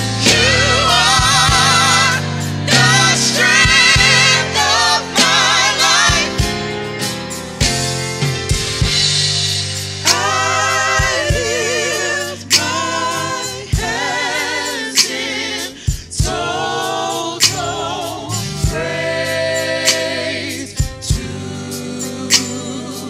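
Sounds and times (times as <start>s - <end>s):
worship team singing in harmony: 0.0s - 7.2s, 10.0s - 23.0s
bass guitar: 0.0s - 14.1s, 17.5s - 23.0s
drum and cymbal hits: 0.0s - 23.0s
keyboard: 0.0s - 23.0s.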